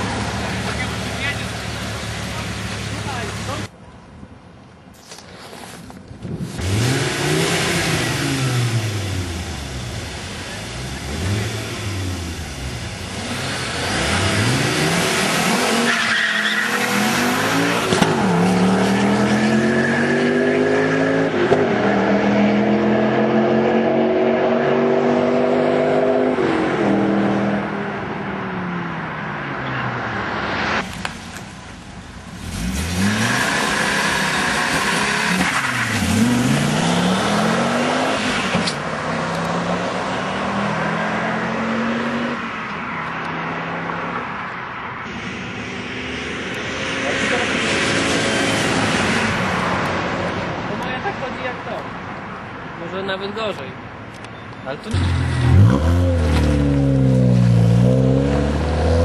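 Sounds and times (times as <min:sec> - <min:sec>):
car engines accelerating hard: 0:06.4 - 0:30.9, 0:32.2 - 0:52.6, 0:54.8 - 0:59.0
cars passing at speed: 0:10.8 - 0:54.1, 0:54.7 - 0:59.0.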